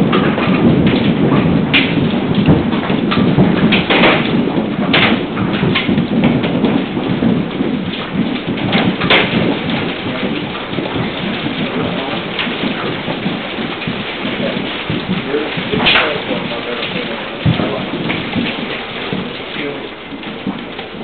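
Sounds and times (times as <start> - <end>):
hailstones striking building: 0.0 - 21.0.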